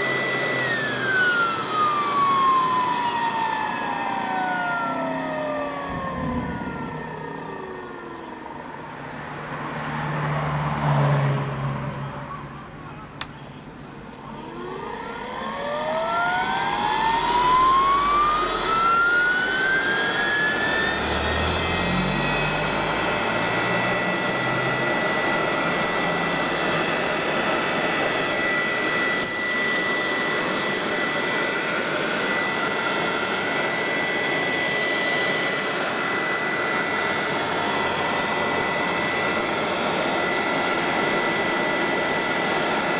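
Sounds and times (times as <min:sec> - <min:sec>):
blower whine: 0:00.0 - 0:42.9.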